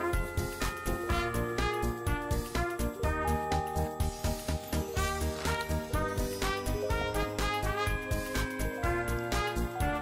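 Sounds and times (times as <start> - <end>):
christmas-style music with bells: 0.0 - 10.0.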